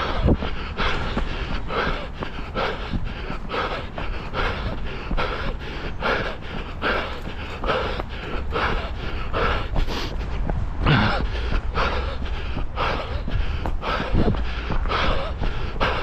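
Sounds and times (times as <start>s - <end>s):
person panting heavily: 0.0s - 16.0s.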